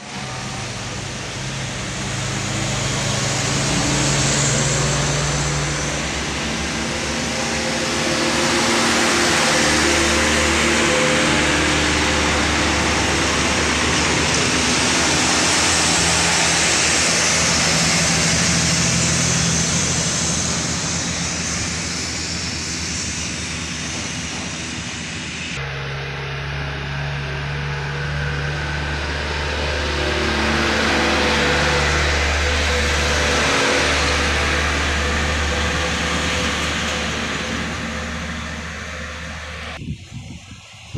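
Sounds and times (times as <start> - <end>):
diesel trucks passing: 0.0 - 40.9
tyre and road noise: 0.0 - 40.9.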